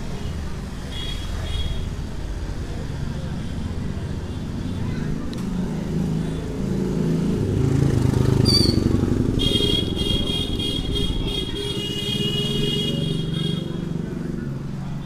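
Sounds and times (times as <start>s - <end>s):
motorcycles running: 0.0s - 15.0s
street traffic: 0.0s - 15.0s.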